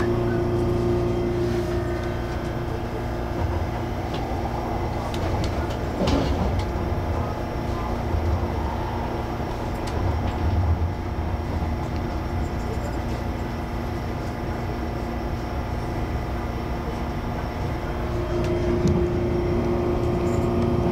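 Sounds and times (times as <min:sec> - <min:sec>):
train hum and rumble: 0:00.0 - 0:20.9.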